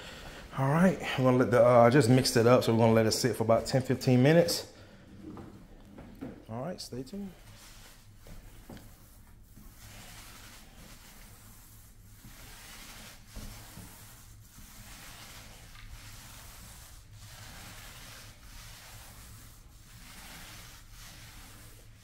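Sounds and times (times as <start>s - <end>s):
paint roller swishing on floor: 0.6s - 22.0s.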